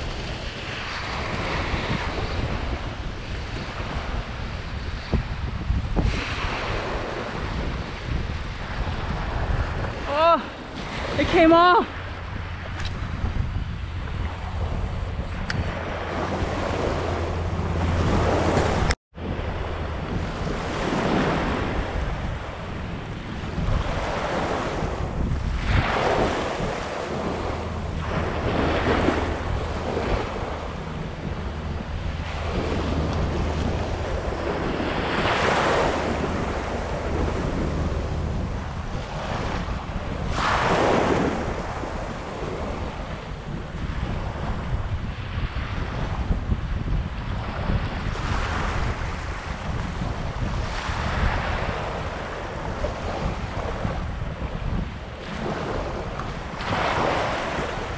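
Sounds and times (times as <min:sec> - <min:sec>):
small waves washing on beach: 0:00.0 - 0:57.9
wind rumbling on microphone: 0:00.0 - 0:57.9.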